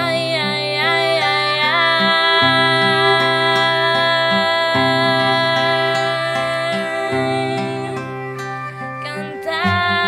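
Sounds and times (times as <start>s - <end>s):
classical guitar: 0.0s - 10.0s
woman singing long note: 0.0s - 10.0s.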